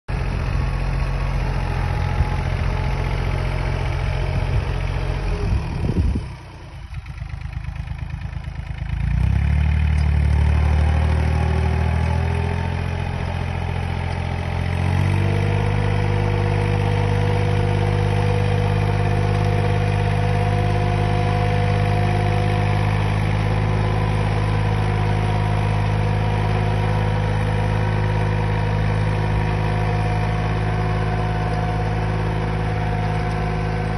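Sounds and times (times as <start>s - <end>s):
rotary tiller through soil: 0.1s - 33.9s
tractor diesel engine running: 0.1s - 33.9s.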